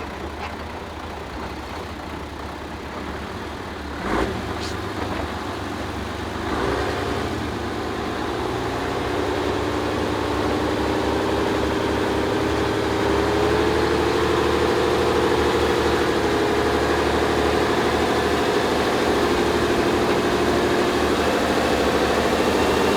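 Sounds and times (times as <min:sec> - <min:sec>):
truck diesel engine running: 0:00.0 - 0:22.9.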